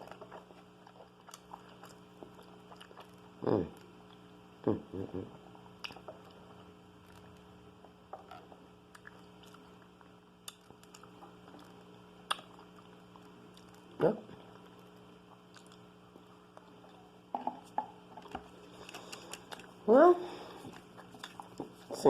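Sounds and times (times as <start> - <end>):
person chewing food: 0.0 - 4.4, 5.7 - 21.9
electrical hum: 0.0 - 22.0.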